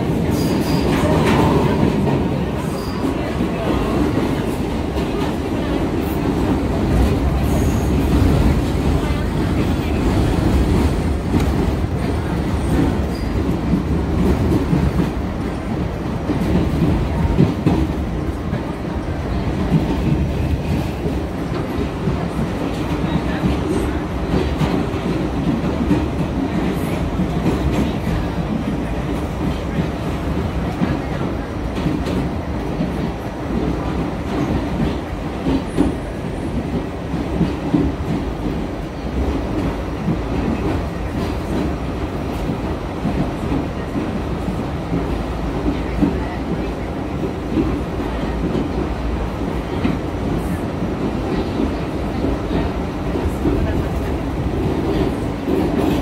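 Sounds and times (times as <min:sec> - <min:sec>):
subway train wheels rumbling: 0:00.0 - 0:56.0.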